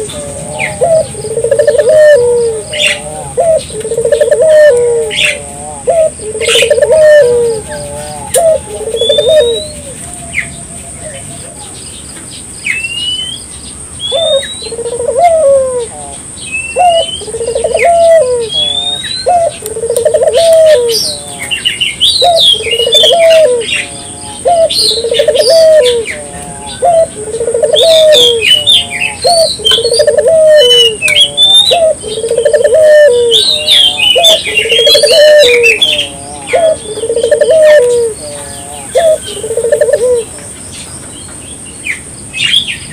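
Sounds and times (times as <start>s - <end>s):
dove cooing: 0.0s - 11.8s, 14.1s - 40.5s
small birds chirping: 0.0s - 42.9s.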